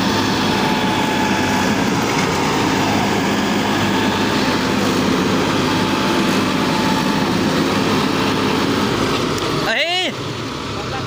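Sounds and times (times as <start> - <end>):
tractor engine straining: 0.0 - 11.0.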